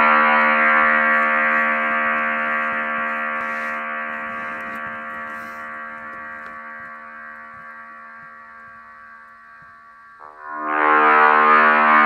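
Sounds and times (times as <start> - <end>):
buzzy synthesizer note: 0.0 - 12.0.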